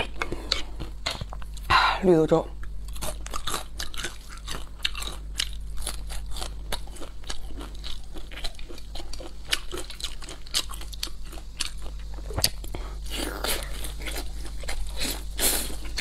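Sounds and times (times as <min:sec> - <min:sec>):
person chewing crunchy food: 0:00.0 - 0:01.7, 0:02.6 - 0:16.0.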